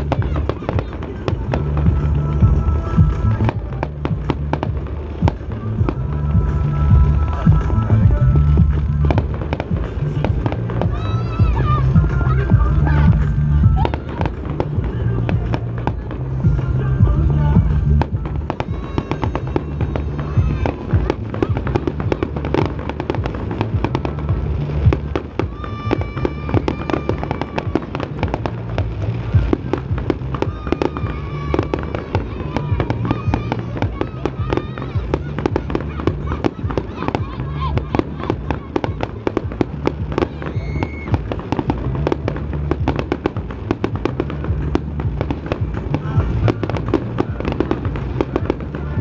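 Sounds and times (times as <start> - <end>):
fireworks bangs and crackling: 0.0 - 49.0
low rumble: 0.0 - 49.0
music with low bass: 0.0 - 49.0.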